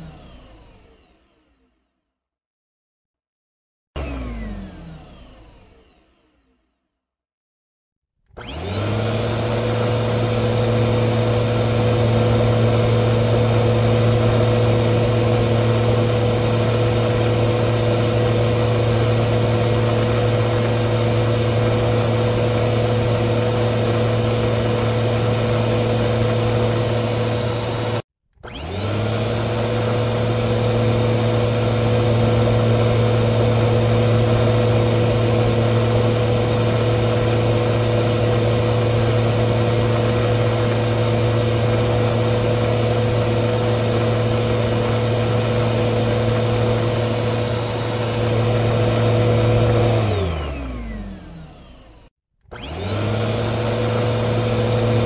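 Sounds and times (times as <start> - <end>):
vacuum cleaner motor running: 0.0 - 1.6, 4.0 - 6.3, 8.3 - 55.0.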